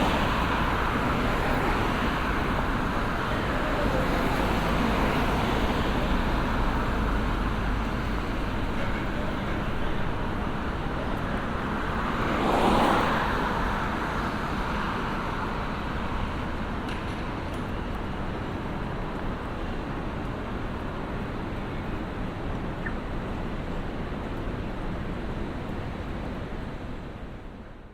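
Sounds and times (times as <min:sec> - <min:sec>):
city street traffic: 0:00.0 - 0:27.9.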